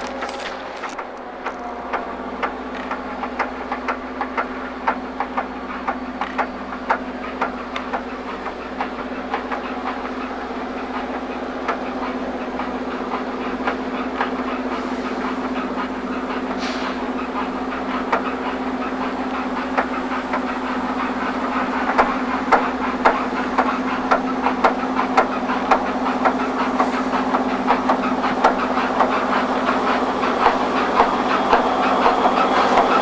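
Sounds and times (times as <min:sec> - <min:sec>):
low train drone: 0:00.0 - 0:33.0
train wheels clicking on rails: 0:00.0 - 0:33.0.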